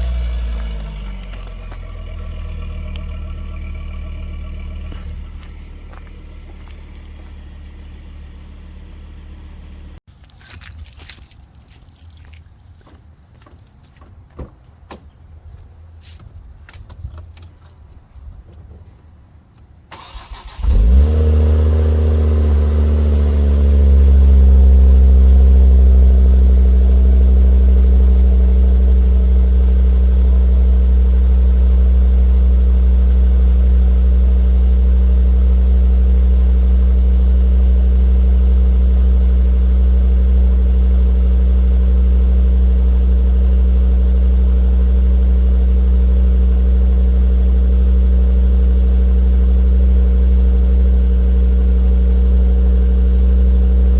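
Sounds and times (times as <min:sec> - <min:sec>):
car engine starting and idling: 0:00.0 - 0:11.4, 0:19.8 - 0:53.9.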